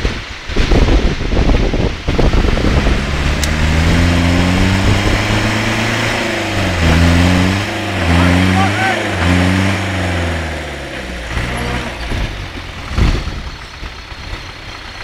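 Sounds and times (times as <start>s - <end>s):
off-road vehicle engine straining: 0.0s - 15.0s.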